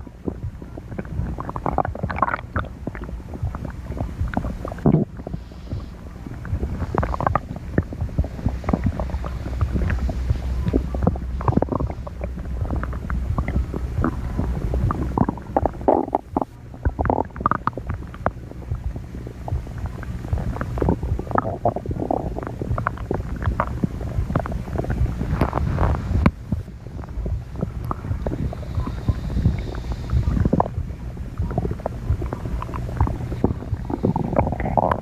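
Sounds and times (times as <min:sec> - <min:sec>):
stomach growling and gurgling: 0:00.0 - 0:35.0.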